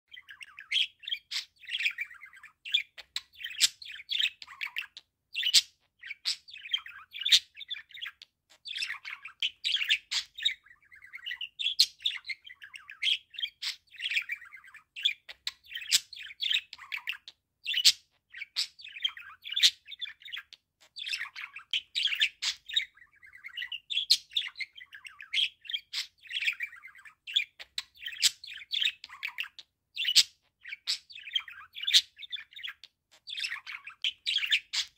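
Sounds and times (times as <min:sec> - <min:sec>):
budgerigar warbling and chattering: 0:00.1 - 0:34.9.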